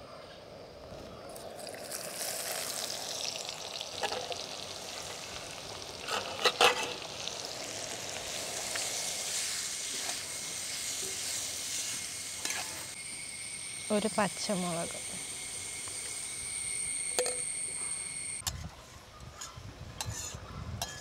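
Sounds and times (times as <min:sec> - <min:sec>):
onions sizzling in oil: 0:01.6 - 0:18.4.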